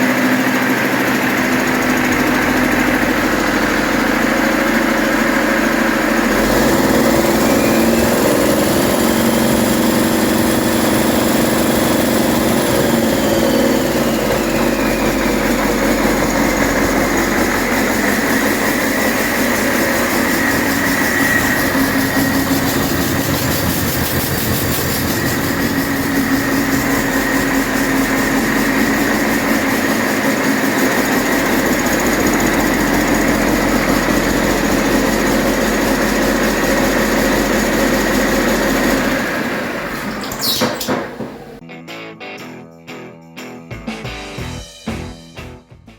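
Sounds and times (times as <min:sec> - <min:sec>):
diesel engine running: 0:00.0 - 0:41.6.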